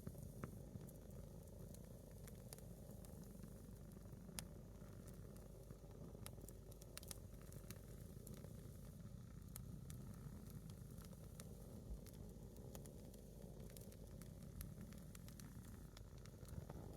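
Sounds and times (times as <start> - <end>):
log burning with crackles and pops: 0.0 - 16.9.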